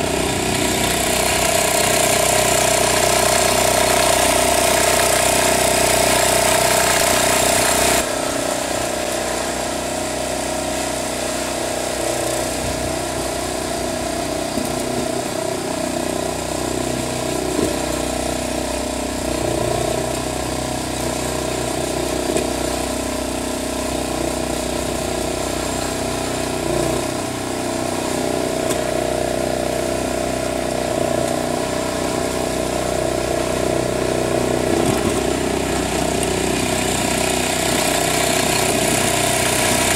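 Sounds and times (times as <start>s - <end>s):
blade pushing snow: 0.0s - 39.9s
garden tractor engine running: 0.0s - 39.9s.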